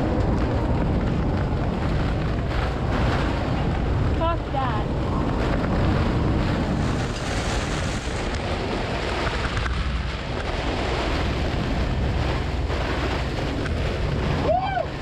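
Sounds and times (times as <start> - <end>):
rough water around hull: 0.0 - 15.0
strong wind buffeting microphone: 0.0 - 15.0.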